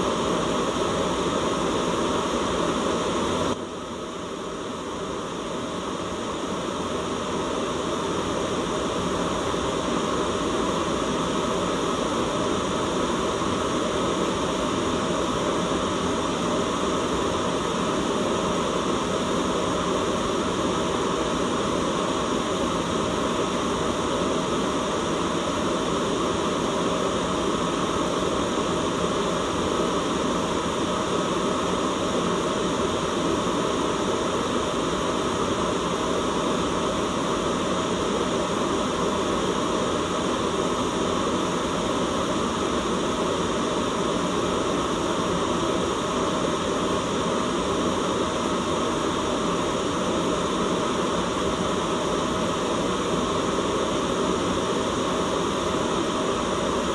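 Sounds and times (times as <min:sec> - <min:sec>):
steady white noise hiss: 0:00.0 - 0:56.9.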